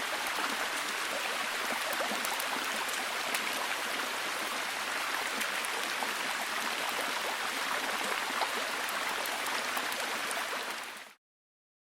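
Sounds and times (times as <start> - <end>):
rain falling: 0.0 - 11.0
stream running: 0.0 - 11.2.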